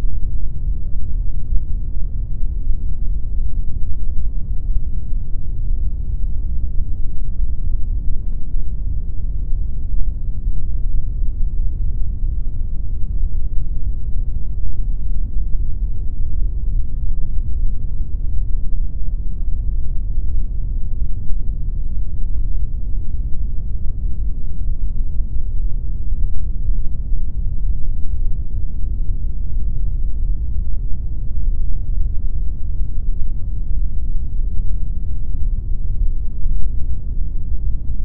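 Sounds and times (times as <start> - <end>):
deep pink noise: 0.0 - 38.0.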